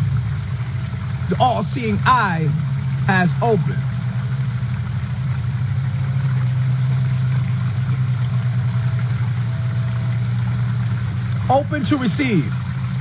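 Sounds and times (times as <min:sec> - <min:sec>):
loud low hum: 0:00.0 - 0:13.0.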